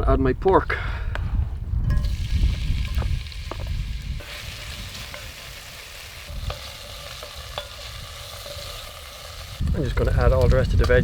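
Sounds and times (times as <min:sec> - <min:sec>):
pork sizzling in a pot: 0:01.9 - 0:11.0.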